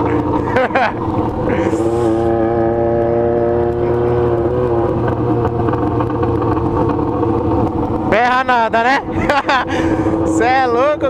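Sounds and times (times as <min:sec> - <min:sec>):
low wind rumble: 0:00.0 - 0:11.0
motorcycle engine running: 0:00.0 - 0:11.0.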